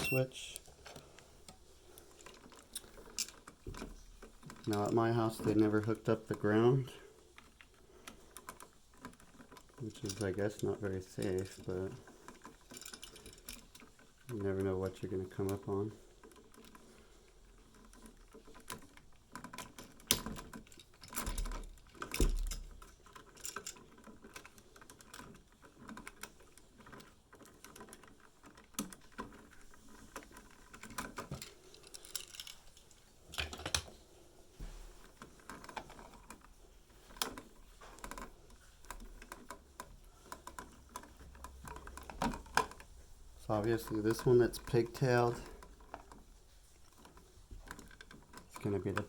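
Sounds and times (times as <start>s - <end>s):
small clicks taps and scrapes: 0.0s - 49.0s.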